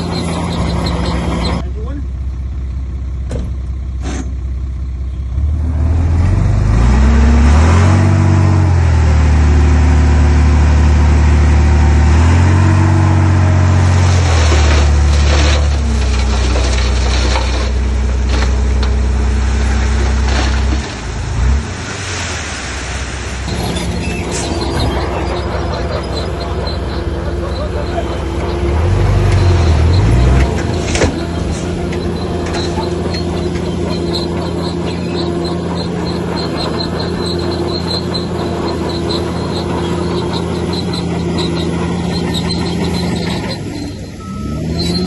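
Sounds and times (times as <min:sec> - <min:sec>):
heavy diesel engine revving: 0:05.3 - 0:45.0.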